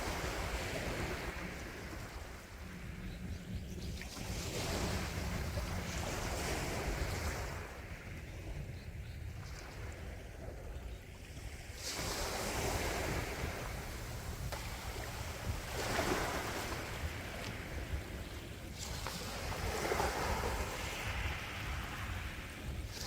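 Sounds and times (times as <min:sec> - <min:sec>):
sea waves washing ashore: 0:00.0 - 0:23.0.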